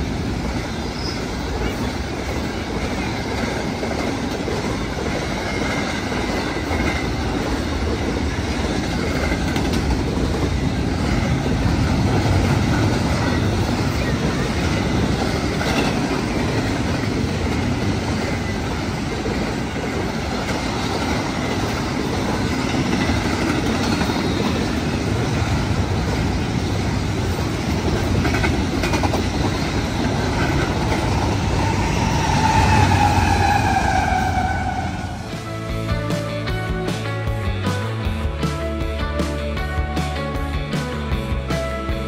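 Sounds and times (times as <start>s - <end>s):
diesel locomotives passing: 0.0s - 42.0s
train wheels rumbling on rail: 0.0s - 42.0s.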